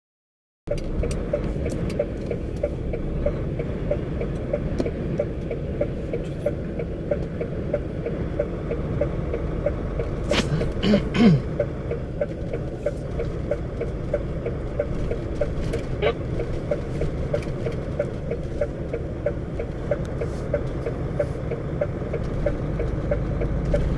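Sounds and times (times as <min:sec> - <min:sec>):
light regular ticking: 0:00.7 - 0:10.8, 0:11.4 - 0:23.9
vehicle rumbling on snowy road: 0:00.7 - 0:23.9.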